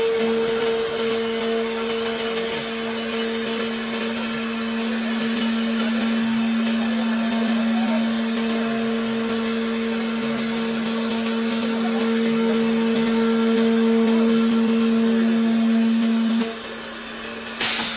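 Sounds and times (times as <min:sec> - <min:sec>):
cutter milling wood: 0:00.0 - 0:17.9
milling machine spindle hum: 0:00.0 - 0:17.9.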